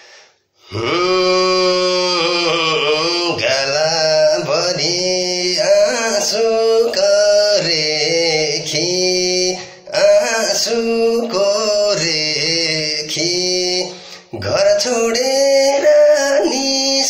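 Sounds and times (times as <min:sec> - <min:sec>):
man singing: 0:00.6 - 0:17.0.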